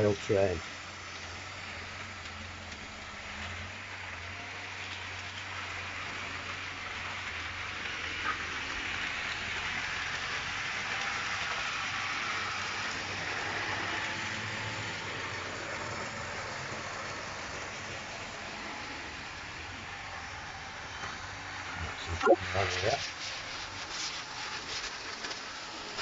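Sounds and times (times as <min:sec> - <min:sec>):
model train wheels rolling: 0:00.0 - 0:26.0.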